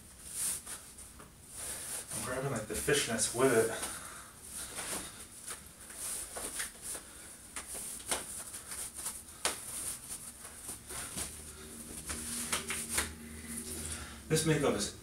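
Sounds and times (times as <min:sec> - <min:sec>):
clothing rustling: 0:00.0 - 0:14.2.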